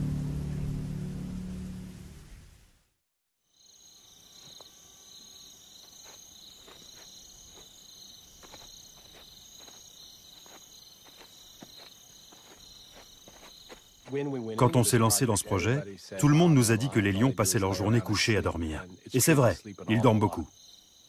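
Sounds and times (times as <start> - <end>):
crickets chirring: 3.4 - 21.0.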